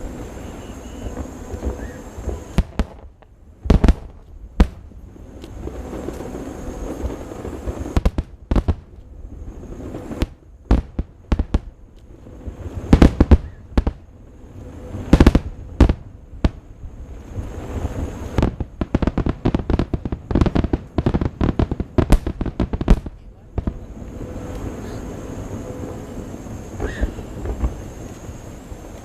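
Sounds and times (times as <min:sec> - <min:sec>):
crackling firework reports: 0:00.0 - 0:29.0
fireworks bursting: 0:00.0 - 0:29.0.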